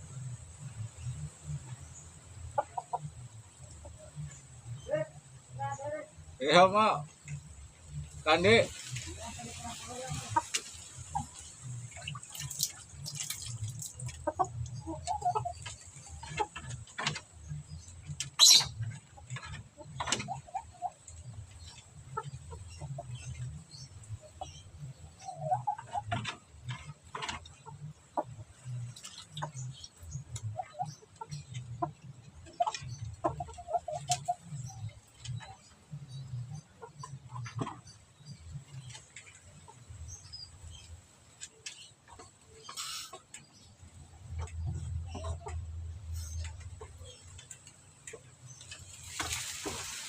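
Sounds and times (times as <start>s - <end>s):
low rough hum: 0.0s - 33.6s, 43.2s - 50.0s
chicken clucking: 0.6s - 50.0s.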